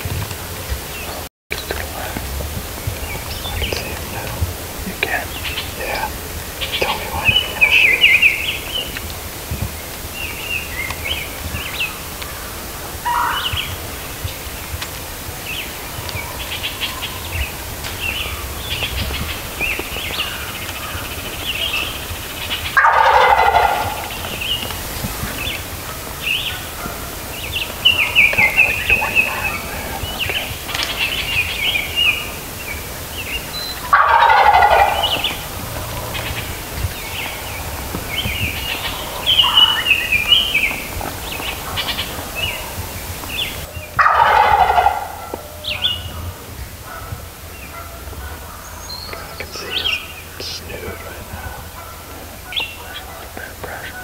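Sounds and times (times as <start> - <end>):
songbirds chirping: 0.0 - 54.0
turkey gobbling: 0.6 - 50.2, 50.9 - 54.0.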